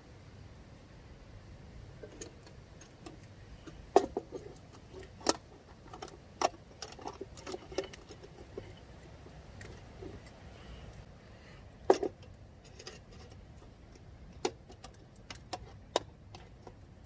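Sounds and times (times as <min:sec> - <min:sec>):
faint steady background noise: 0:00.0 - 0:17.0
clicks and light knocks: 0:02.0 - 0:11.1, 0:11.8 - 0:16.9.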